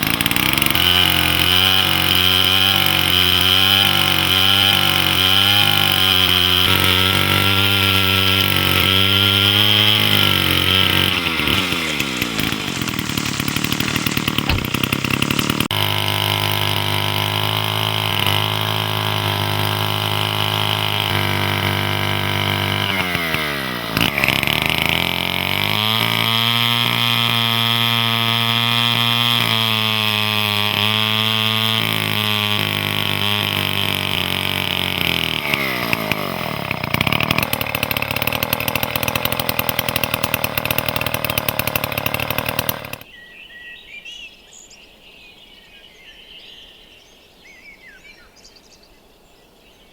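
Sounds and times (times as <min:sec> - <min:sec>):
chainsaw revving: 0:00.0 - 0:43.1.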